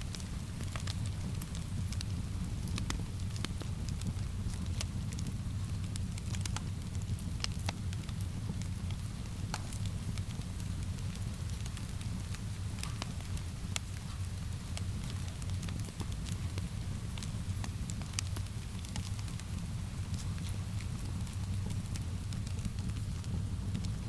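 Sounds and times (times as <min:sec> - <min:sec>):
rain: 0:00.0 - 0:24.0
wood fire crackling and popping: 0:00.0 - 0:24.0.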